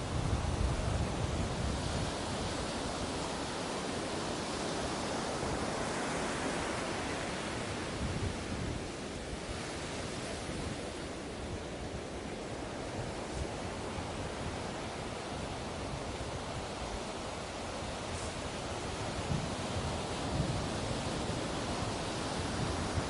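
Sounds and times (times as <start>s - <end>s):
ocean waves washing onto beach: 0.0s - 23.0s.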